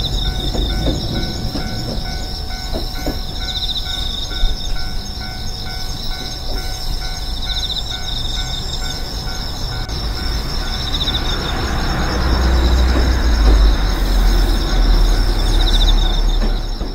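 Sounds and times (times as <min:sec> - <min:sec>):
train rumbling past: 0:00.0 - 0:16.9.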